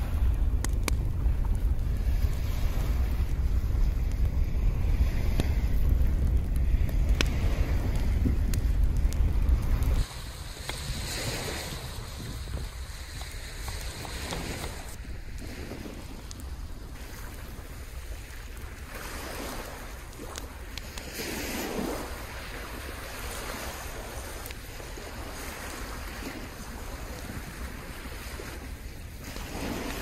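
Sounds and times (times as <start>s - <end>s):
waves washing onto sand: 0.0s - 30.0s
wind rumble on microphone: 0.0s - 30.0s.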